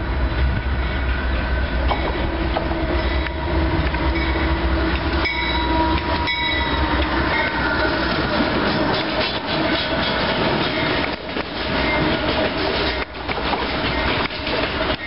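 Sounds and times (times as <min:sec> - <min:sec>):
diesel locomotives rumbling past: 0:00.0 - 0:15.0
train wheels on rails: 0:00.0 - 0:15.0.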